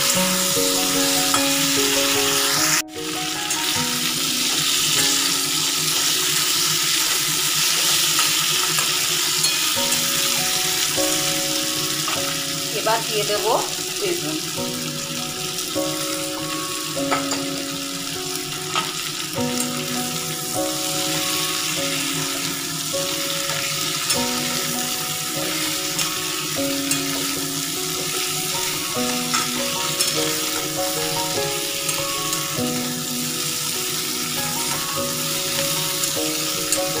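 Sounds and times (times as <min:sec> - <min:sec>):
soft melody: 0:00.0 - 0:37.0
vegetables sizzling in oil: 0:00.0 - 0:37.0.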